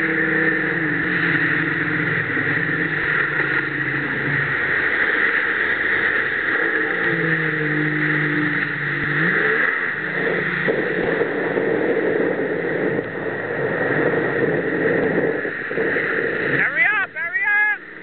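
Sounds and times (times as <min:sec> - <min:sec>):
churning water and spray: 0:00.0 - 0:18.0
jet ski engine revving: 0:00.0 - 0:18.0.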